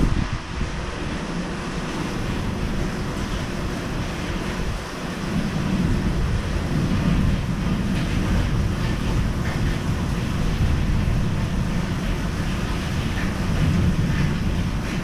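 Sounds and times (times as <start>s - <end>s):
storm wind and water rushing: 0.0s - 15.0s
wind buffeting microphone: 0.0s - 15.0s.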